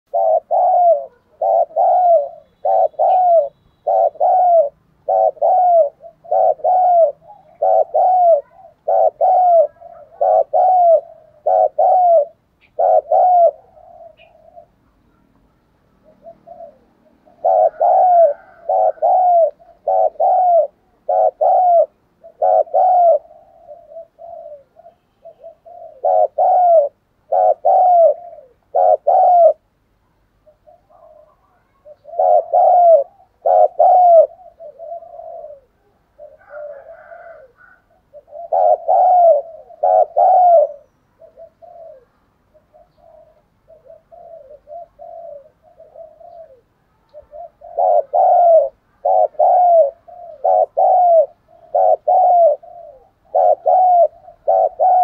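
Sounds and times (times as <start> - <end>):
dove cooing: 0.0 - 29.8, 30.4 - 55.0.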